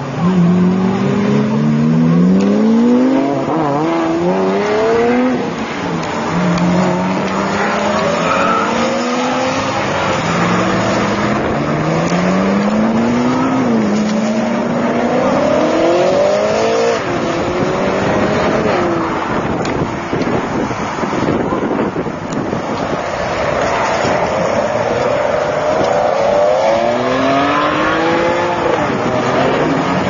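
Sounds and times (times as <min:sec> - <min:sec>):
sports car engines revving: 0:00.0 - 0:30.0.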